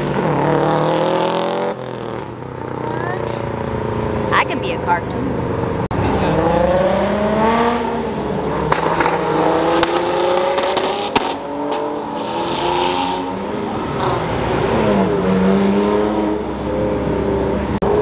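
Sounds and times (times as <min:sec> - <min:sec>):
car engines accelerating: 0:00.0 - 0:18.0.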